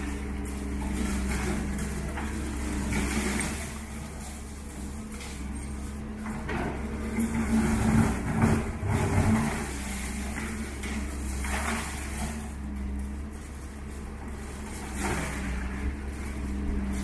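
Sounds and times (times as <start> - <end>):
diesel engine running: 0.0 - 17.0
rubble crunching and clattering: 0.0 - 17.0.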